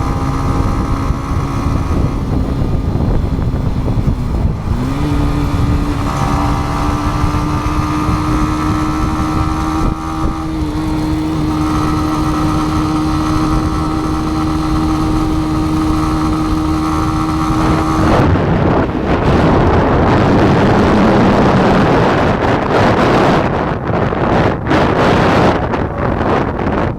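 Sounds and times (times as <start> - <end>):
motorcycle engine cruising: 0.0 - 26.9
wind noise on microphone: 0.0 - 26.9.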